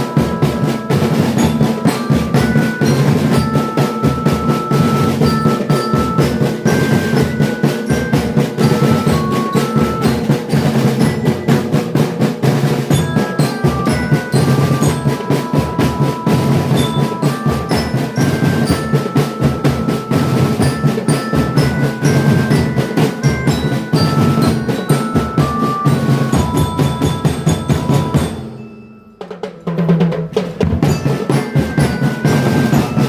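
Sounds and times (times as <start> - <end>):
melody of short held notes: 0.0 - 29.6, 30.8 - 33.0
drum rolls: 0.0 - 33.0
marching drum band: 0.0 - 33.0.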